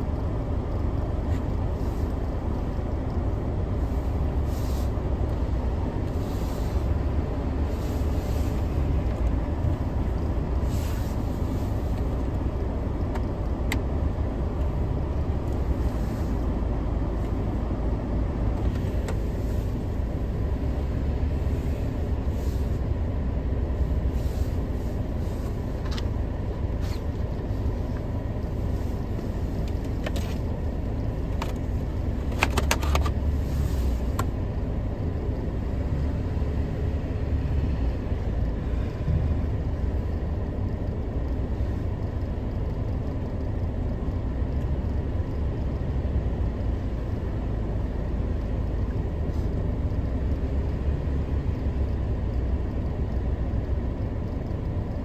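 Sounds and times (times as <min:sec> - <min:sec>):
wheel loader diesel engine: 0:00.0 - 0:55.0.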